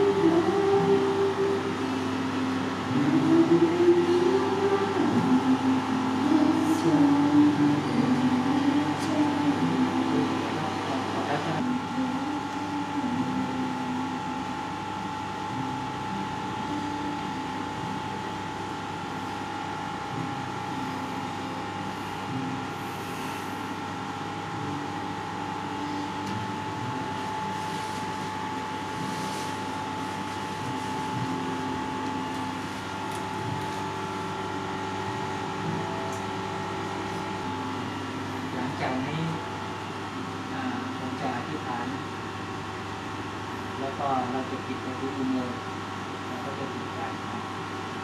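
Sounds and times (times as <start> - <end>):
machine hum with high whine: 0.0 - 48.0.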